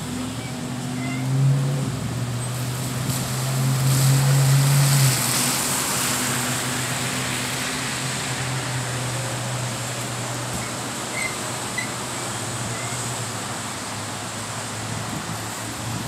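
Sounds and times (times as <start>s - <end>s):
vehicle passing with tyre noise: 0.0s - 16.0s.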